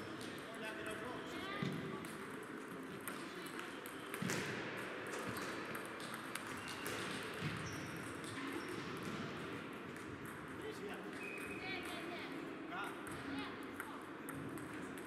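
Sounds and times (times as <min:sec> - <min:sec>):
table tennis balls clicking: 0:02.0 - 0:12.1, 0:12.8 - 0:15.0.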